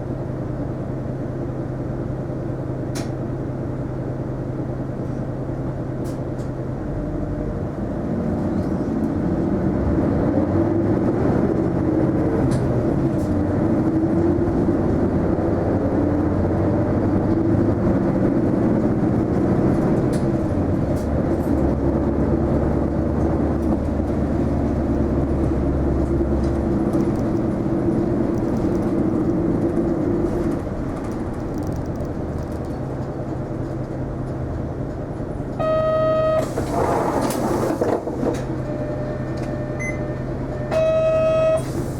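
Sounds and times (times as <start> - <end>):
bus engine and drivetrain: 0.0 - 41.9.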